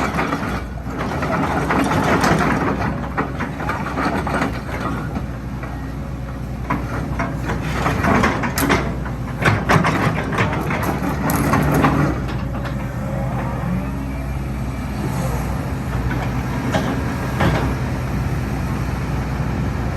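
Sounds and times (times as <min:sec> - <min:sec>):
excavator clanks and knocks: 0:00.0 - 0:14.1, 0:15.1 - 0:18.5
excavator diesel engine humming: 0:00.0 - 0:19.9.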